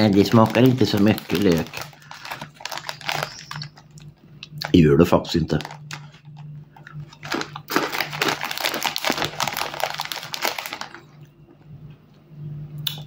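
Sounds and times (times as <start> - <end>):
plastic snack bag crinkling: 0.0 - 11.2.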